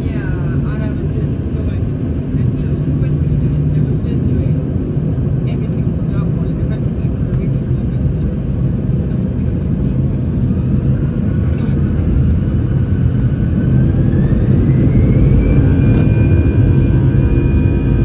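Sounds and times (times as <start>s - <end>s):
jet engine whine: 0.0s - 18.0s
jet engines rumbling: 0.0s - 18.0s.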